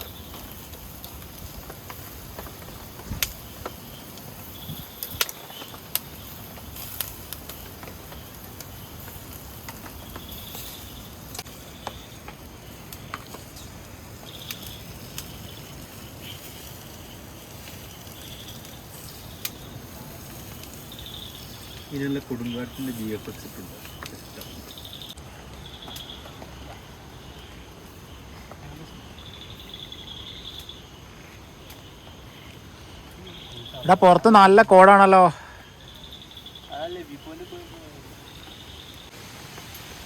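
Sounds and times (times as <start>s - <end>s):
insect chorus: 0.0s - 40.0s.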